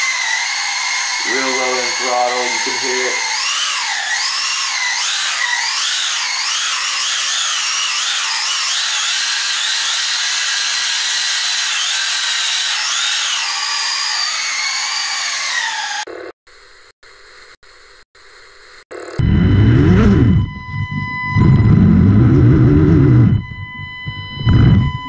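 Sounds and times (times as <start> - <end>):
rc car electric motor whining: 0.0 - 16.3, 18.9 - 25.0.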